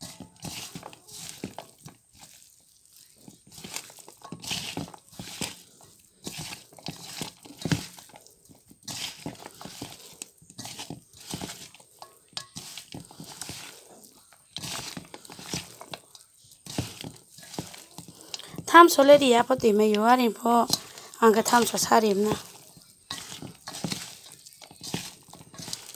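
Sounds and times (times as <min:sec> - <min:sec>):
hand squishing raw meat in bowl: 0:00.0 - 0:25.9.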